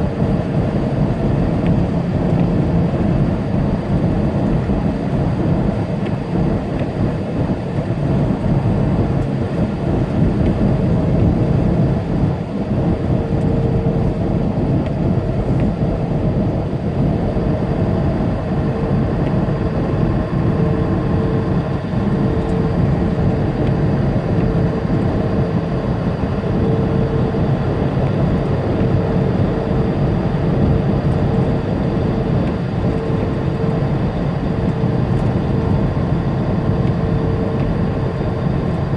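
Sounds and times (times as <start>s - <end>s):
truck engine and tyre drone: 0.0s - 38.9s.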